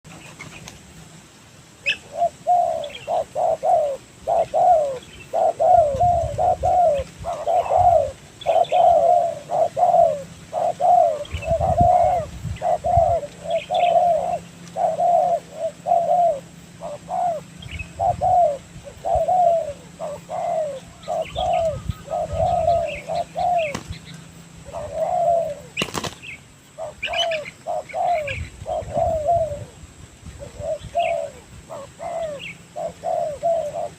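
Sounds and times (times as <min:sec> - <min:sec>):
doves cooing: 0:01.8 - 0:33.9.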